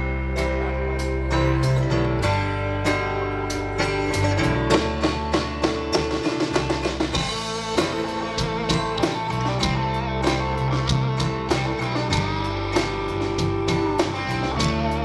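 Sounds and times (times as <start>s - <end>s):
bass guitar: 0.0s - 15.0s
guitars strumming: 0.0s - 15.0s
drum kit beat: 0.4s - 15.0s.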